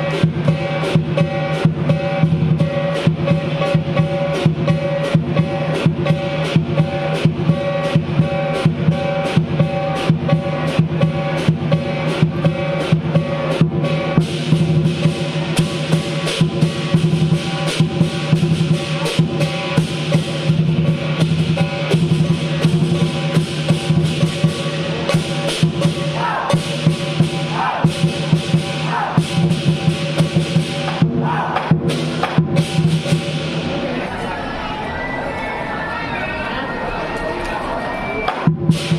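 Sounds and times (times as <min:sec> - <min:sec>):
large drum beating: 0:00.0 - 0:34.3
cymbals clashing: 0:00.0 - 0:35.6, 0:37.6 - 0:38.9.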